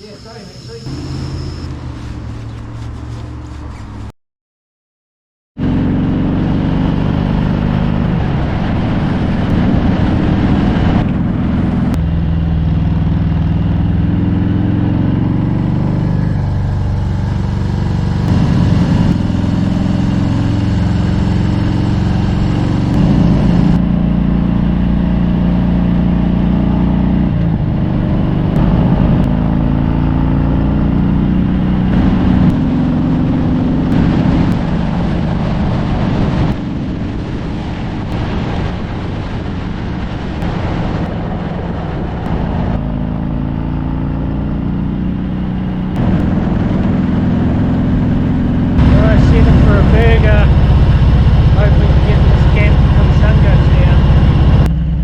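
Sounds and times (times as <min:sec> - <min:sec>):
motorcycle engine running: 0:00.0 - 0:04.1, 0:05.6 - 0:55.0.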